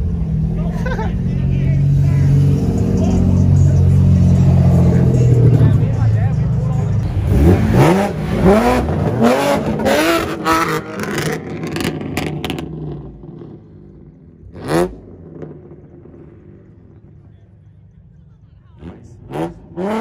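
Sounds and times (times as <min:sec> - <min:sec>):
car accelerating hard: 0:00.0 - 0:17.2, 0:18.8 - 0:20.0
engine rev: 0:00.0 - 0:20.0.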